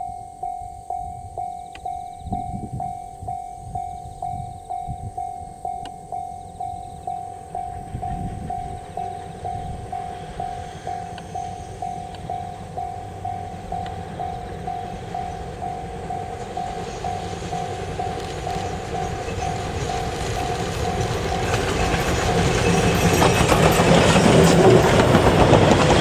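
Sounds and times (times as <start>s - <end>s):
level-crossing warning bell ringing: 0.0s - 26.0s
steam train rumble: 0.0s - 26.0s.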